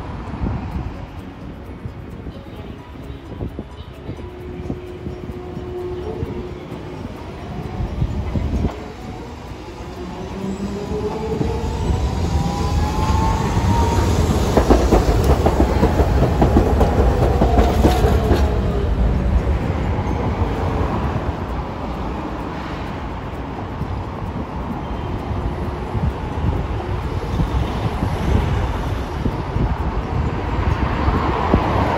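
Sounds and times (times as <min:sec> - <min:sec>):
tram motor whine: 0:00.0 - 0:31.9
tram wheels clicking over rail joints: 0:00.0 - 0:31.9.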